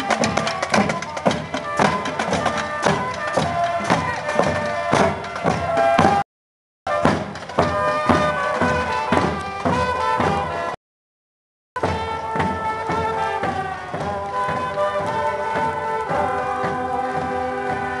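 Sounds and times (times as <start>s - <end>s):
marching band playing: 0.0s - 6.2s, 6.9s - 10.8s, 11.8s - 18.0s.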